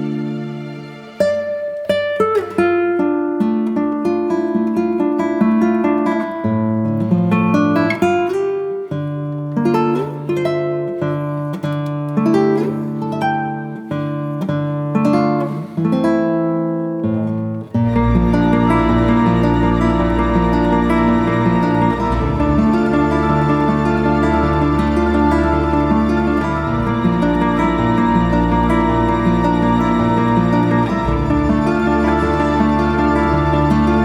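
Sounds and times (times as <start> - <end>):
plucked guitar music: 0.0 - 34.0.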